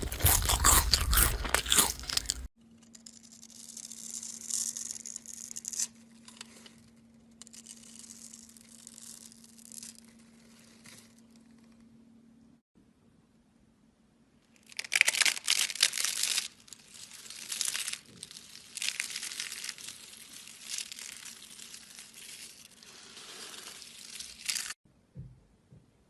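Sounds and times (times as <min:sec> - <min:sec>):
crinkling crackling noise: 0:00.0 - 0:11.9, 0:14.5 - 0:24.8.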